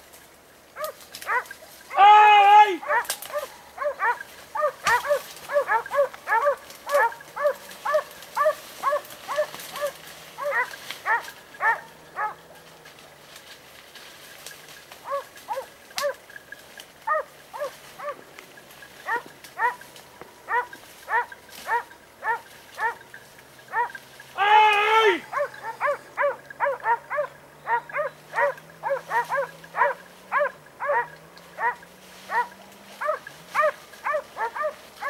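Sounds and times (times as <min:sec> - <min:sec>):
hounds baying: 0:00.8 - 0:35.0.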